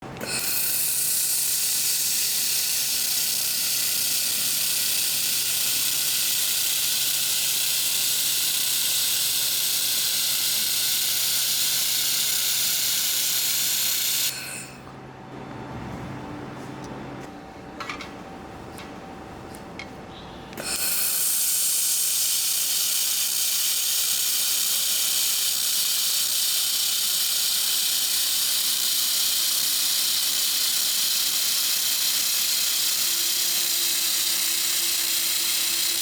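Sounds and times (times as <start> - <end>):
gas hissing from welder torch: 0.2 - 14.8, 20.6 - 36.0.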